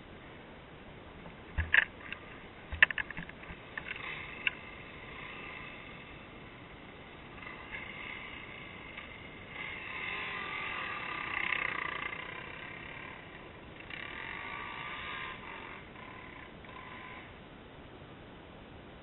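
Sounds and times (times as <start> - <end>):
dirt bike engine revving: 1.5 - 17.4.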